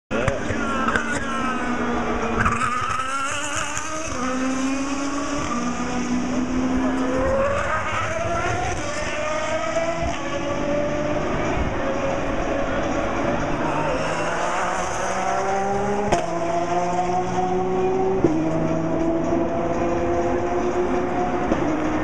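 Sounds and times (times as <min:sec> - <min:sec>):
race car engines: 0:00.1 - 0:22.0.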